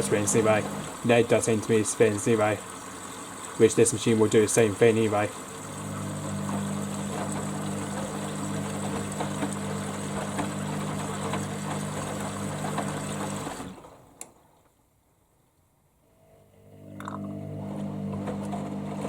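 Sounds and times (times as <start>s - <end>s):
washer-dryer humming: 0.0s - 14.2s, 16.8s - 19.0s.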